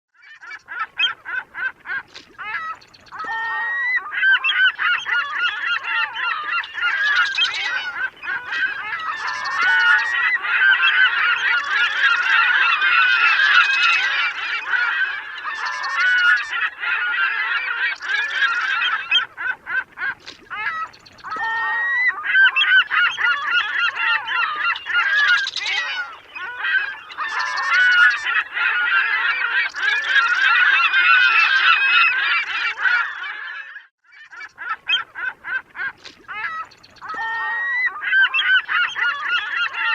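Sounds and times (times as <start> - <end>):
gulls calling: 0.2 - 39.9.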